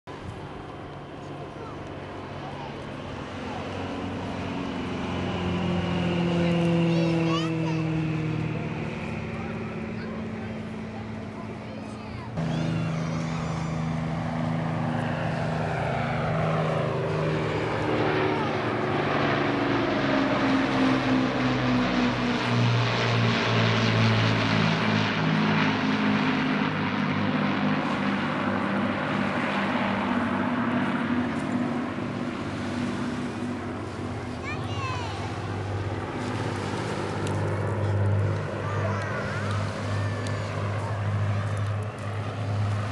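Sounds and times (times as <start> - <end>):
propeller airplane flying past: 0.0 - 42.9.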